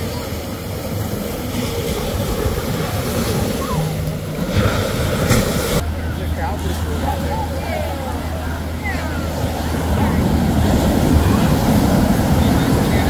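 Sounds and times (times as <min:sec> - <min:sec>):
faint voices: 0:00.0 - 0:13.0
surf: 0:00.0 - 0:13.0
wind: 0:00.0 - 0:13.0.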